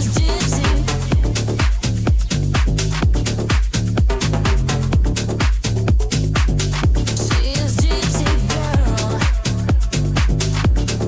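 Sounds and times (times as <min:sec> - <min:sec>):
bass house dance music: 0:00.0 - 0:11.0.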